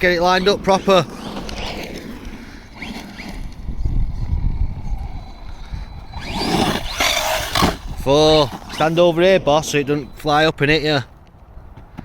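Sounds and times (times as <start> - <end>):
electric motor whining: 0.0 - 11.0
tyres rumbling on rough ground: 0.0 - 12.0.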